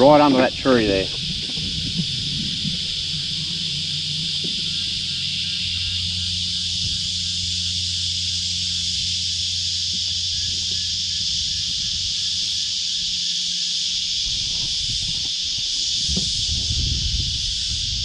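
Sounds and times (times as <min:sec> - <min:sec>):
cicadas buzzing: 0:00.0 - 0:18.0.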